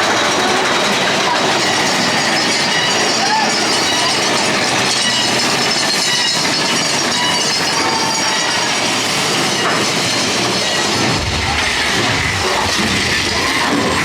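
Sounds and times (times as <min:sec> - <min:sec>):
roller coaster cars on rails: 0:00.0 - 0:14.0.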